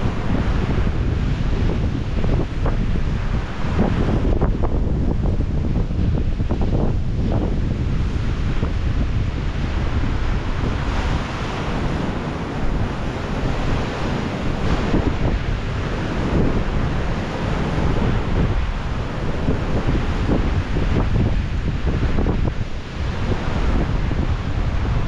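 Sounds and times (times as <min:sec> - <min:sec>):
surf breaking over rocks: 0:00.0 - 0:25.0
wind buffeting microphone: 0:00.0 - 0:25.0.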